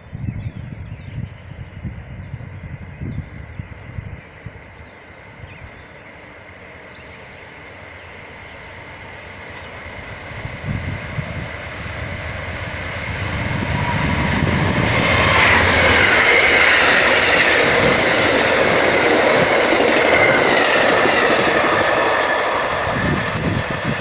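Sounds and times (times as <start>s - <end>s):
diesel locomotive engine rumble: 0.0s - 24.0s
train wheel and rail noise: 0.0s - 24.0s.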